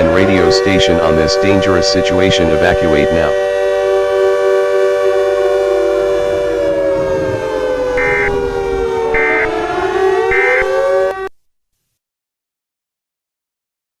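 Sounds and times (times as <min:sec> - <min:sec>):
siren chord of steady tones: 0:00.0 - 0:11.3.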